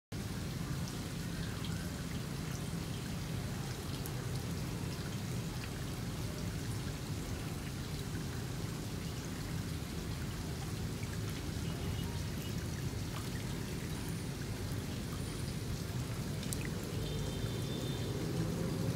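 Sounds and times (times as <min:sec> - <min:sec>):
small drips and splashes: 0:00.1 - 0:18.9.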